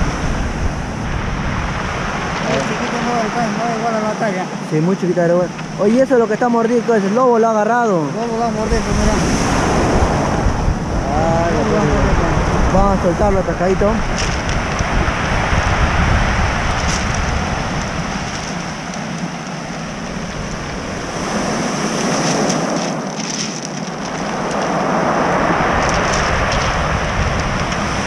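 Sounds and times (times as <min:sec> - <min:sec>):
surf breaking on pebble beach: 0:00.0 - 0:28.0
wind rumbling on microphone: 0:00.0 - 0:28.0.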